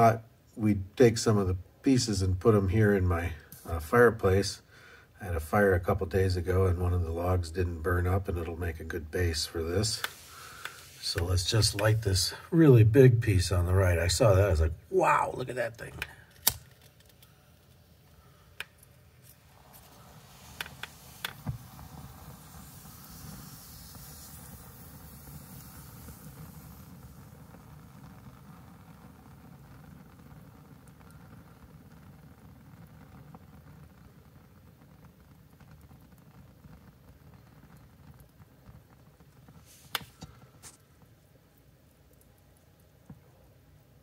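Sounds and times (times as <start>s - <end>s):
hiss of flame: 0.0s - 44.0s
lacquer flakes crackling: 5.8s - 44.0s.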